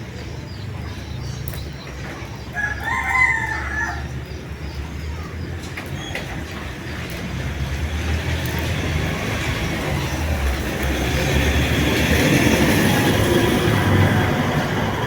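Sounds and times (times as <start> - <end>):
passing vehicle rumble: 0.0 - 15.0.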